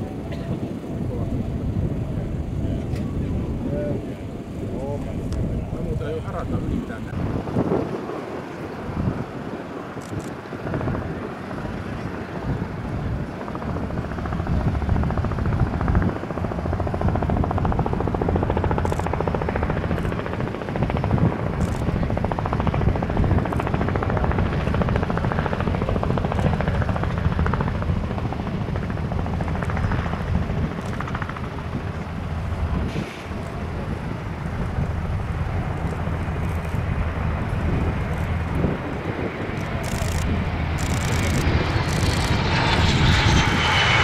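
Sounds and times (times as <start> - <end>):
aircraft rumble: 0.0 - 44.0.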